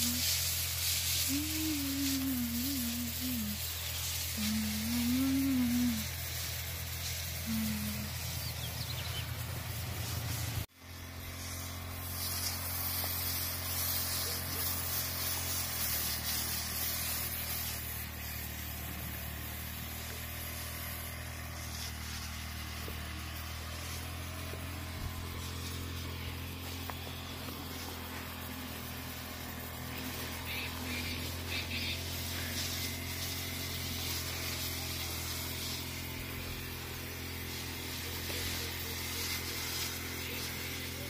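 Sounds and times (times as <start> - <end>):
small engine running: 0.0 - 41.0
spray gun hissing: 0.0 - 41.0.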